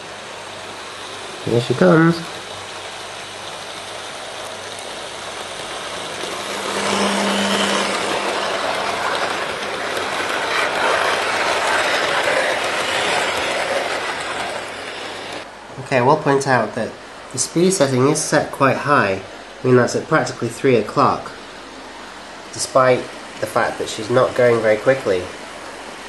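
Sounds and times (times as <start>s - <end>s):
model train motor and wheels rumble: 0.0s - 26.0s.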